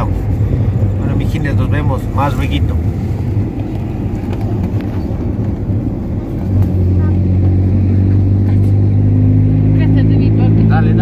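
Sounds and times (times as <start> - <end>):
car engine drone: 0.0 - 11.0
road noise inside car: 0.0 - 11.0.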